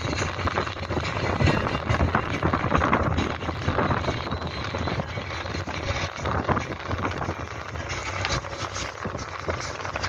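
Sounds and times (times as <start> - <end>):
boat engine drone: 0.0 - 10.0
wind buffeting microphone: 0.0 - 10.0.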